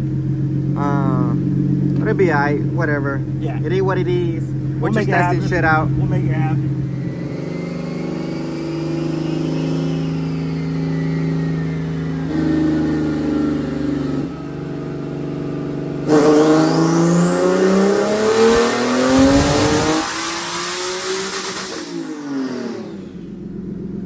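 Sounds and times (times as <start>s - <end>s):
high turbo whine: 0.0s - 24.0s
car engine revving on dyno: 0.3s - 24.0s.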